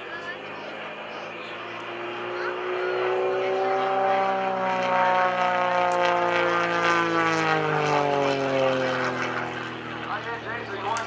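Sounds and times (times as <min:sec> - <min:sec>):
propeller plane engine in flight: 0:00.0 - 0:11.0.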